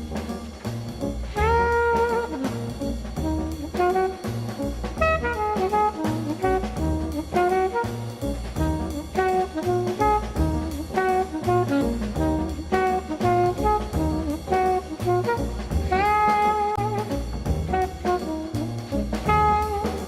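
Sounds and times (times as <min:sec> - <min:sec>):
jazzy brass instrumental music: 0:00.0 - 0:20.0.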